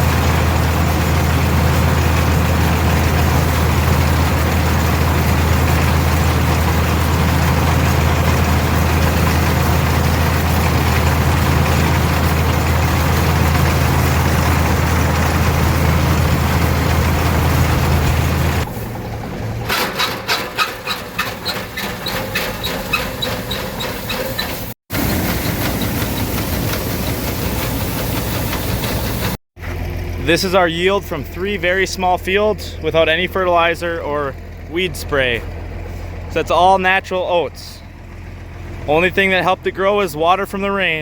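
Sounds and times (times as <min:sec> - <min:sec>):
tractor engine drone: 0:00.0 - 0:41.0.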